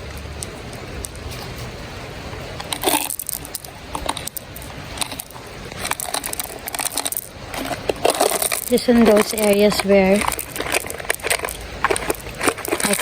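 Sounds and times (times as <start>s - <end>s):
small rocks clicking and crunching: 2.6s - 13.0s.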